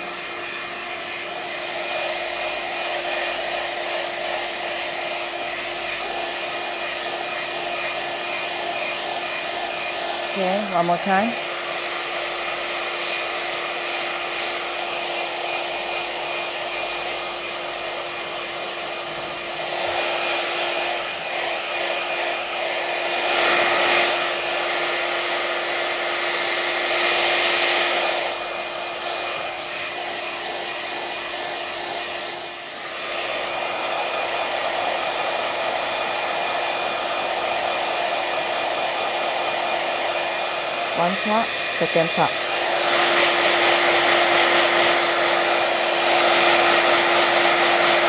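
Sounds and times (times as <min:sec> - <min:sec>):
handheld device fan humming: 0:00.0 - 0:48.0.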